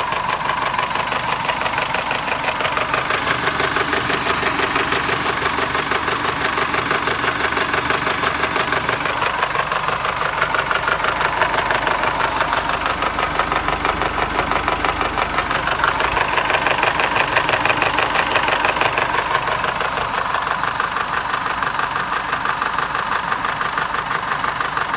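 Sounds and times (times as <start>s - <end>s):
diesel engine idling with knock: 0.0s - 24.9s.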